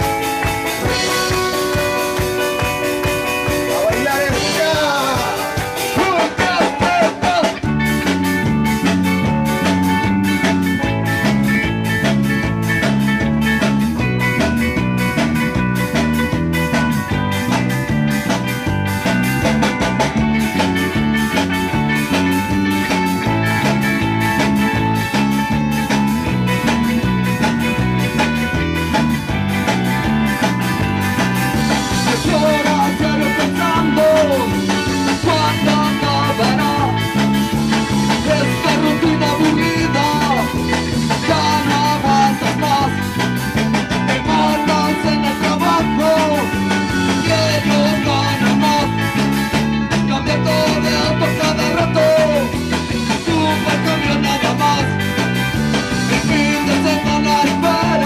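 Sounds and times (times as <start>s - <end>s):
live punk band playing: 0.0s - 58.0s.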